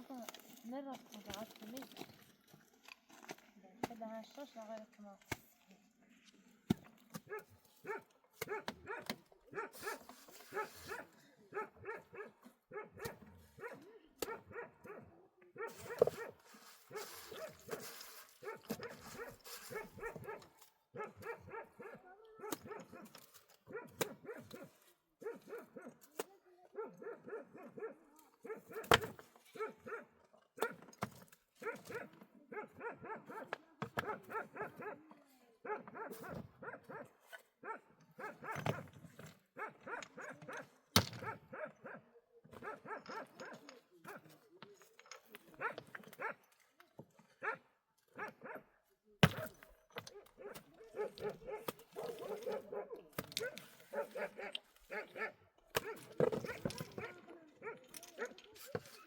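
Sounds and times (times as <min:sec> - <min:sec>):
dog barking: 0:07.3 - 0:30.9, 0:31.6 - 0:38.9, 0:39.6 - 0:44.3, 0:45.0 - 0:46.5, 0:47.4 - 0:59.0.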